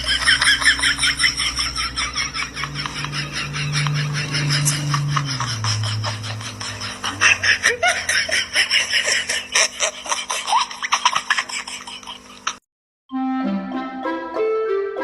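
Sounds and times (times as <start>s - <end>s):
people laughing: 0.0s - 12.6s.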